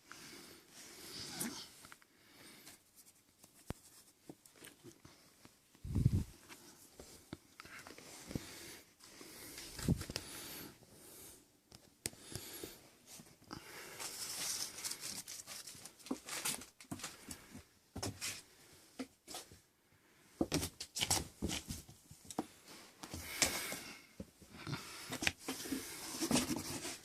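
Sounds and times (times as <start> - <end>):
kittens scuffling and scratching: 1.1 - 10.7, 11.7 - 19.6, 20.4 - 27.0.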